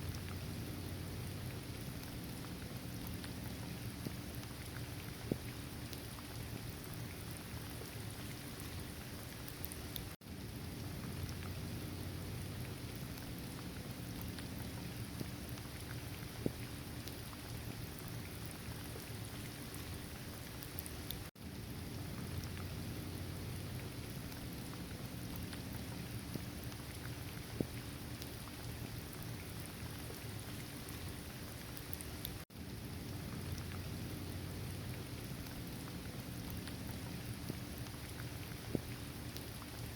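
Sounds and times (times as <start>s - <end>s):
raindrop ticks: 0.0s - 10.2s, 10.8s - 39.9s
steady rain falling: 0.0s - 39.9s.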